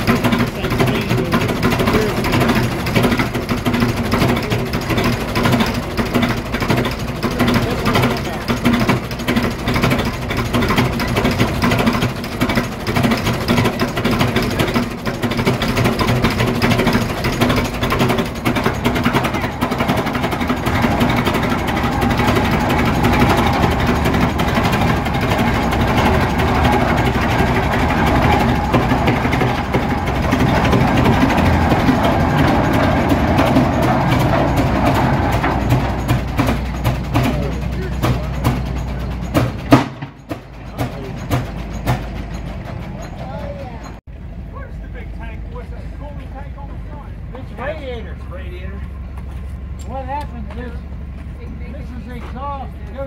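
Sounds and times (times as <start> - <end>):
heavy engine running: 0.0 - 53.0.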